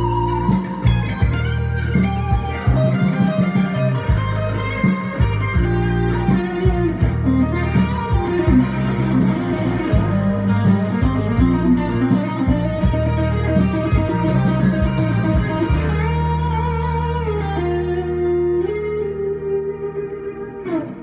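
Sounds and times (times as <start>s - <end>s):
electric guitar solo: 0.0s - 21.0s
rock backing track: 0.0s - 21.0s.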